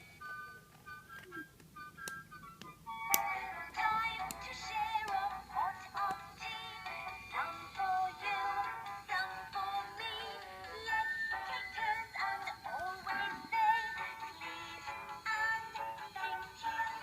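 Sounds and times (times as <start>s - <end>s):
synthesized singing voice: 3.2s - 17.0s.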